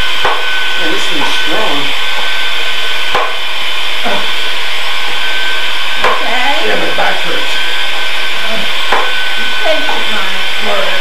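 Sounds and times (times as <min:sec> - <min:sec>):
cordless drill motor whine: 0:00.0 - 0:11.0.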